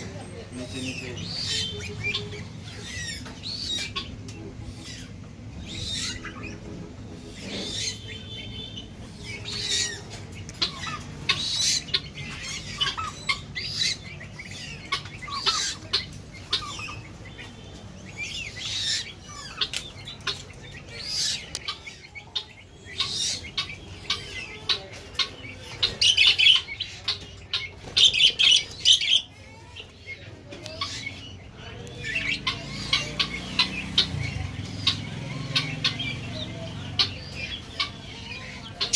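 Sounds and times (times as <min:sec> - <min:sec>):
caged birds chirping and squawking: 0:00.0 - 0:38.9.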